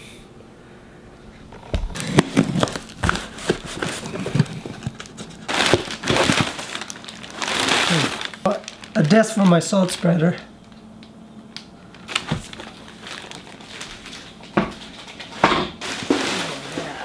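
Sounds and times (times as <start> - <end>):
packaging crinkling: 1.6 - 16.8.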